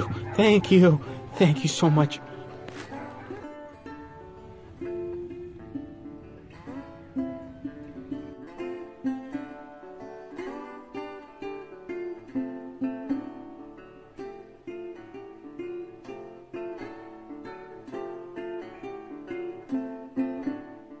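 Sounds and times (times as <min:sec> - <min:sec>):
plucked string melody: 0:00.0 - 0:21.0.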